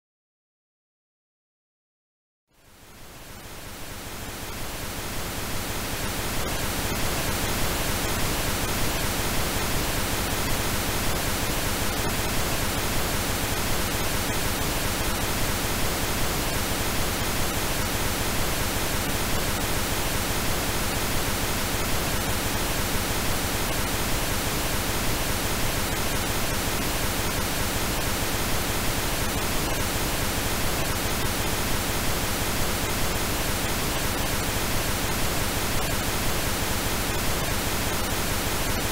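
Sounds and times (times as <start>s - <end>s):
pink noise hiss: 2.6s - 38.9s.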